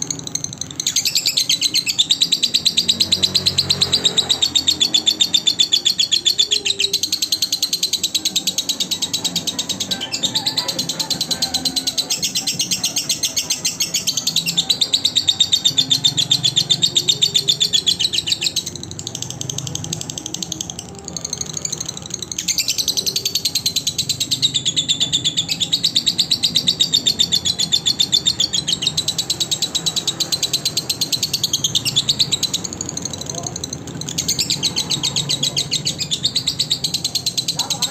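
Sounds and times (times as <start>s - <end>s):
lovebird chirping: 0.0s - 37.9s.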